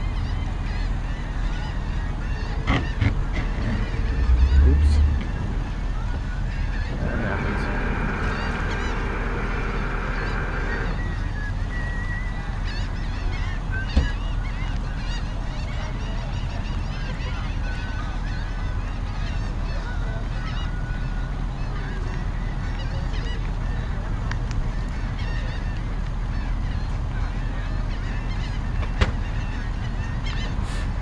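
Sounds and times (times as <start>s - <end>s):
high bird calls: 0.0s - 24.1s, 24.7s - 31.0s
outboard motors rumbling: 0.0s - 31.0s
steady whine: 0.0s - 31.0s.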